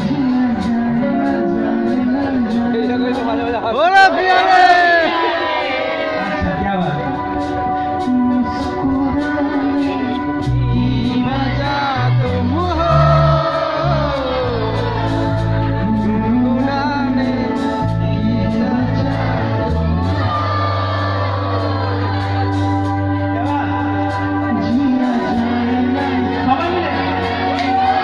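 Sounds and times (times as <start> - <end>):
man singing into microphone: 0.0 - 5.1, 6.1 - 28.0
backing music with bass and beat: 0.0 - 28.0.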